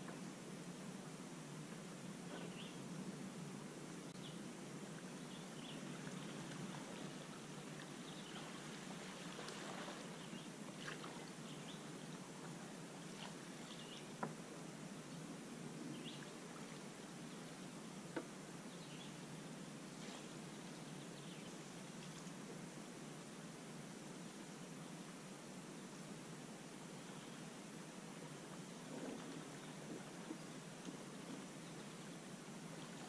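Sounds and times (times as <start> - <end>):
steady low hiss: 0.0 - 33.0.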